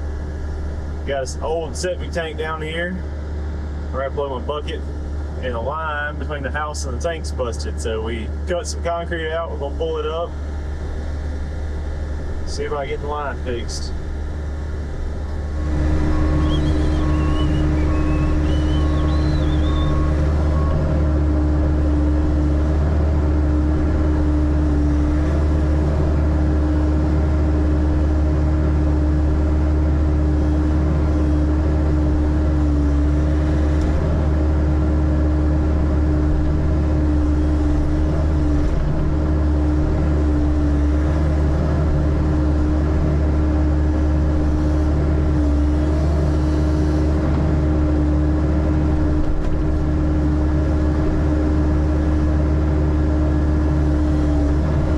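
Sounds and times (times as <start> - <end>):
digging machine engine droning: 0.0 - 54.9
thin steady whine: 0.0 - 54.9.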